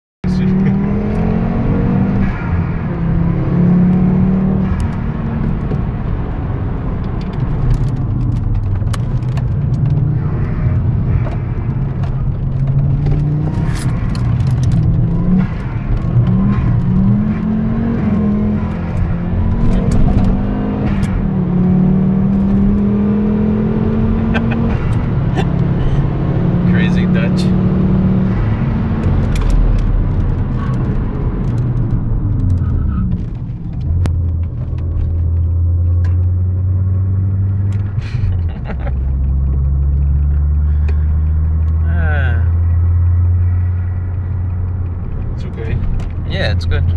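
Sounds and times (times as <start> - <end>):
car engine accelerating under load: 0.3 - 46.9.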